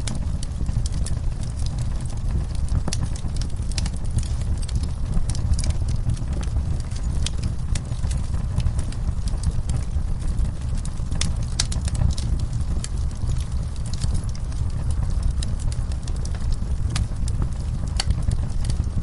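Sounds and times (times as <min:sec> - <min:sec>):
fire rumbling in fireplace: 0:00.0 - 0:19.0
logs crackling and popping: 0:00.0 - 0:19.0.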